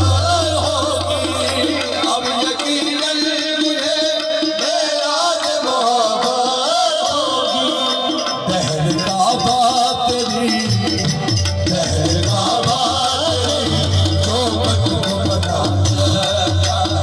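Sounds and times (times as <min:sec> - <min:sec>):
hand drum rhythm: 0:00.0 - 0:17.0
man singing: 0:00.0 - 0:17.0.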